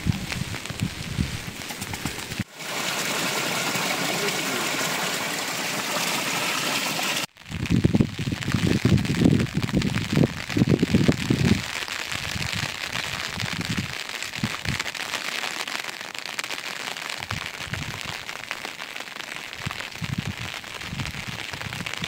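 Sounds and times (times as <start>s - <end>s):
steady rain patter: 0.0s - 22.0s.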